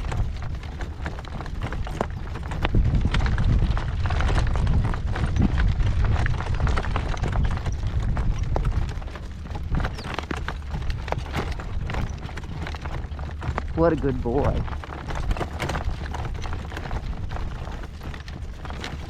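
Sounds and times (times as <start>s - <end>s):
horse hooves trotting: 0.0s - 19.0s
wind buffeting microphone: 0.0s - 19.0s.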